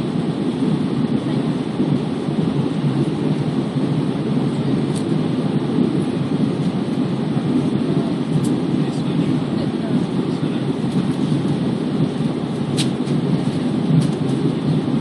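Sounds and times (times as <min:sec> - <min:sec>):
aircraft cabin engine noise: 0:00.0 - 0:15.0.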